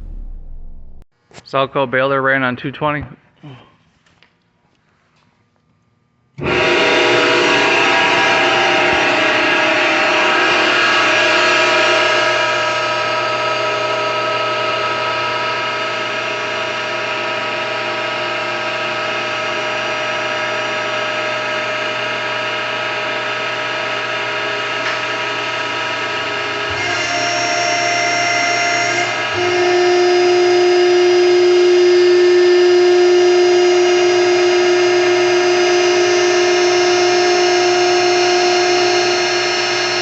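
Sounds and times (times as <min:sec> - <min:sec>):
hydraulic baler motor whine: 0:06.4 - 0:40.0.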